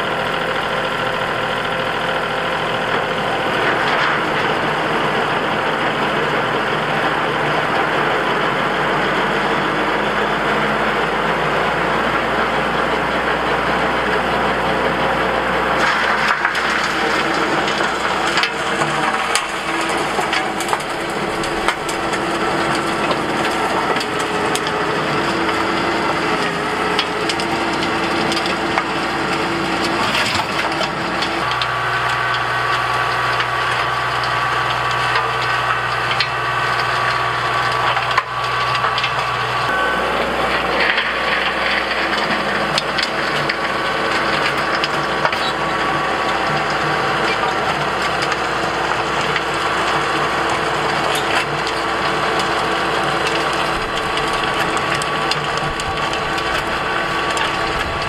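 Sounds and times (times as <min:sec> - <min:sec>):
rotary tiller churning soil: 0:00.0 - 0:58.0
tractor diesel engine under load: 0:00.0 - 0:58.0.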